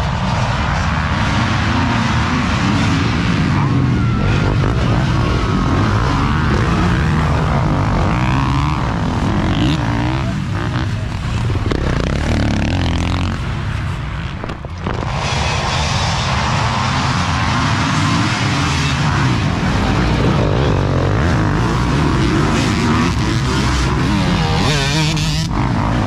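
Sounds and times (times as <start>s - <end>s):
dirt bike engines revving: 0.0s - 26.0s
dirt bikes passing close: 0.0s - 26.0s.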